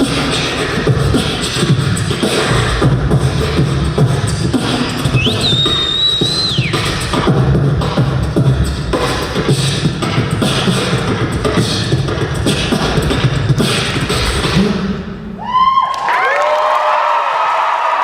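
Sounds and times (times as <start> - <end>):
beatboxing: 0.0 - 15.3.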